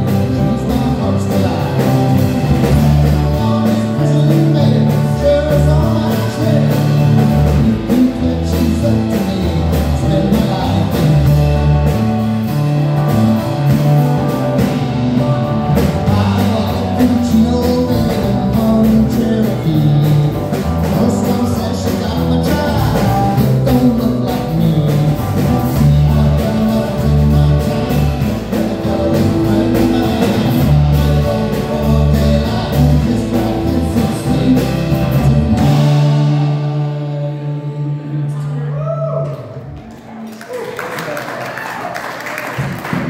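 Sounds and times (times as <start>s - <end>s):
man singing: 0.0s - 39.6s
rock band playing: 0.0s - 40.0s, 41.7s - 43.0s.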